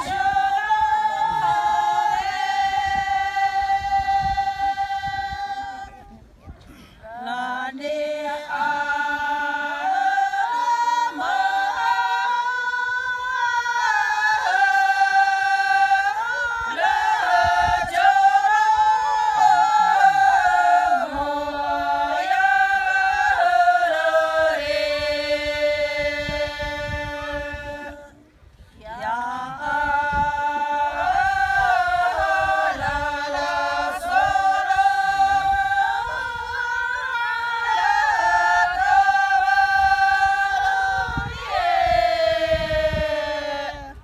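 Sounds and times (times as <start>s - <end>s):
women singing unaccompanied: 0.0s - 6.2s, 7.0s - 44.0s.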